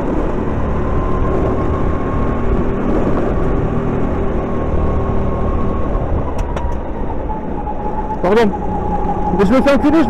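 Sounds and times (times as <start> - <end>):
go-kart engine droning: 0.0 - 10.0.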